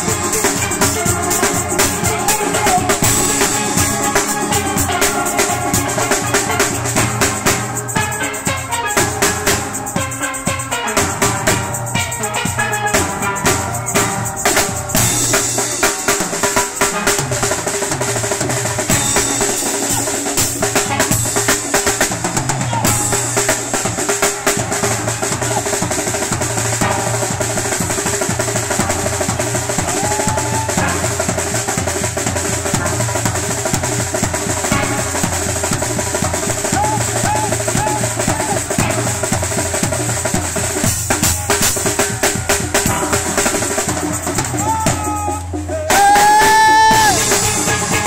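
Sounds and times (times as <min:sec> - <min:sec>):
drum kit beat: 0:00.0 - 0:48.0
steel pans playing: 0:00.0 - 0:48.0.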